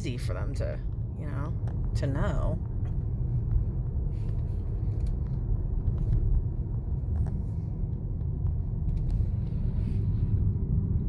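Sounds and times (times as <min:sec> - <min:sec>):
car driving at low speed: 0:00.0 - 0:11.0.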